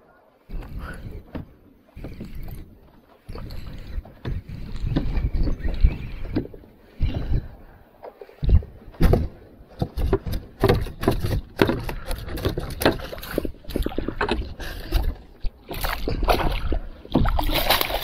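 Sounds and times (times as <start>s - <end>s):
knocks and thumps on a kayak: 0.5s - 2.5s, 3.3s - 18.0s.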